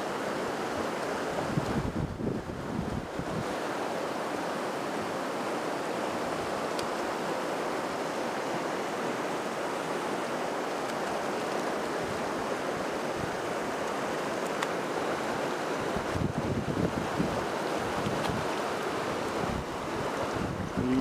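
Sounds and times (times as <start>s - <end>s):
river rushing over rapids: 0.0s - 21.0s.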